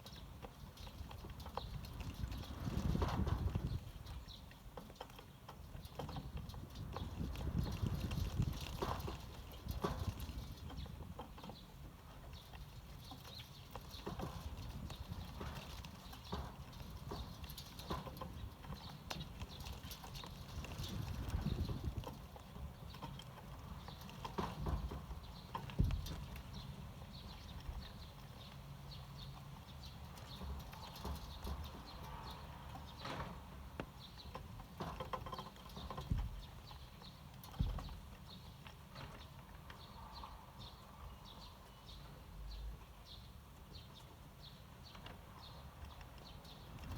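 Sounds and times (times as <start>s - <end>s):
sparrows pecking taps and clicks: 0.0s - 42.2s.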